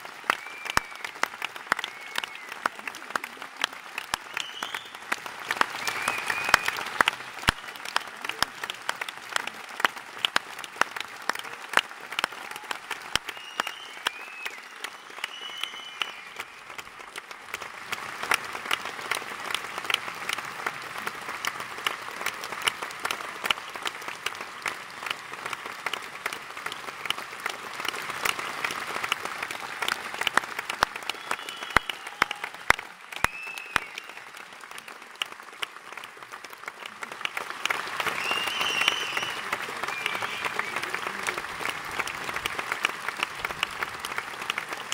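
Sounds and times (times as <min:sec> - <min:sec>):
audience clapping: 0:00.0 - 0:44.9.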